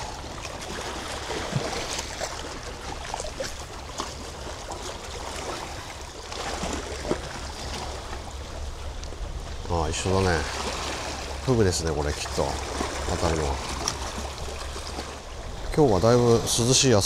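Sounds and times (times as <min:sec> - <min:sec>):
seawater washing among rocks: 0:00.0 - 0:17.0.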